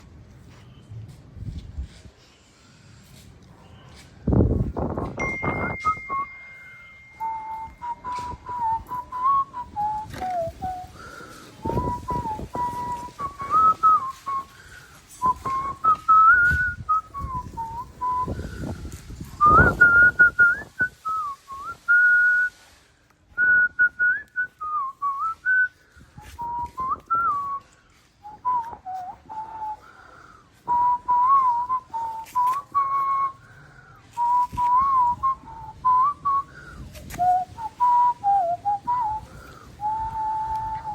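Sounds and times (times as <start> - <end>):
person whistling: 5.1 - 22.6, 23.3 - 40.9.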